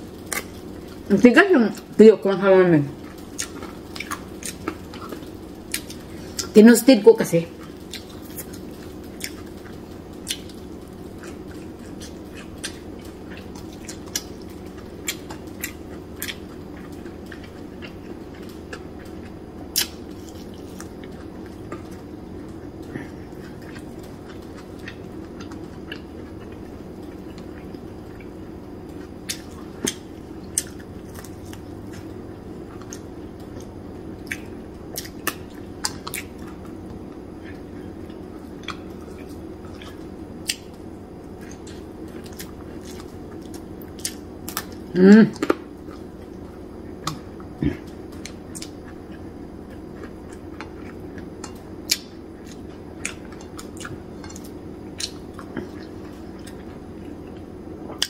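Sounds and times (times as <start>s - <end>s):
steady low hum: 0.0s - 58.0s
person chewing crunchy fish: 3.0s - 6.5s, 7.6s - 58.0s.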